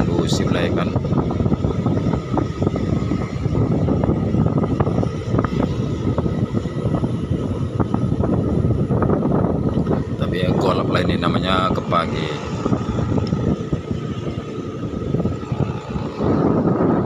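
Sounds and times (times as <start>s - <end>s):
motorcycle engine rumble: 0.0s - 17.0s.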